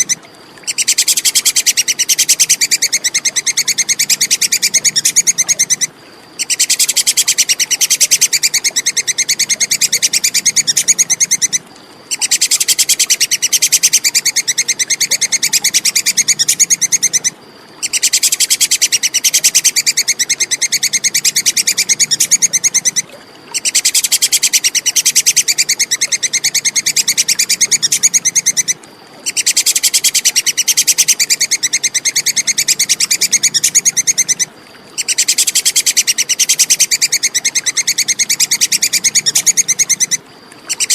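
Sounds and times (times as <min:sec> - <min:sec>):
squirrel chattering call: 0:00.0 - 0:40.9.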